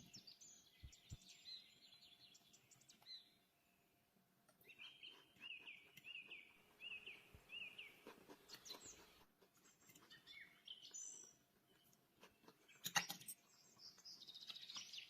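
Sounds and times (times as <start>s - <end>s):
small bird chirping: 0.0s - 3.5s, 4.5s - 15.0s.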